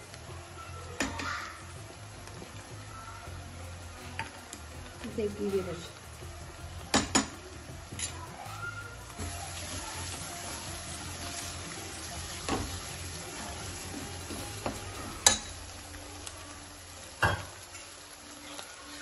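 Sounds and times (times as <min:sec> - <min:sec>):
masala sizzling in a pan: 0:00.0 - 0:19.0.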